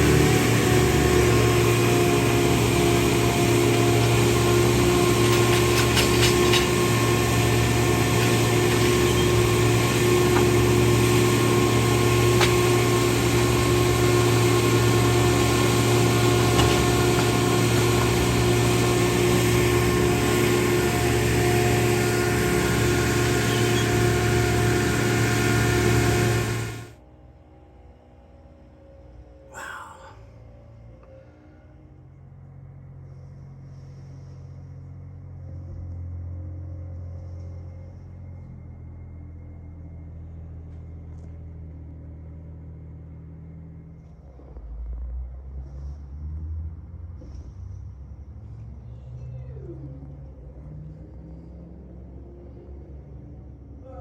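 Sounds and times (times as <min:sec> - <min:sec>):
large engine running: 0:00.0 - 0:54.0.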